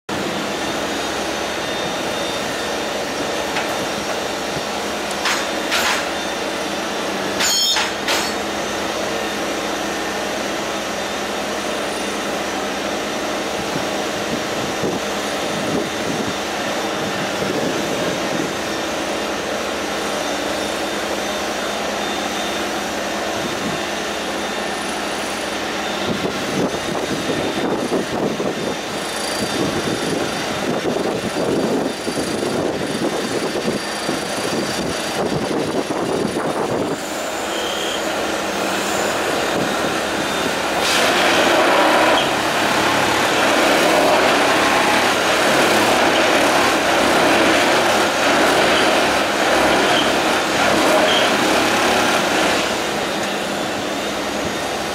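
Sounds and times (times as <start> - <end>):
track tamping machine drone: 0.1 - 54.9.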